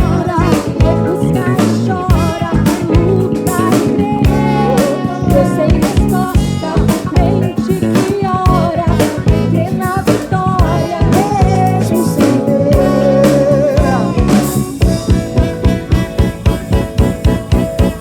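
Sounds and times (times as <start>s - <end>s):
bending lead melody: 0.0s - 18.0s
live band playing soul music: 0.0s - 18.0s.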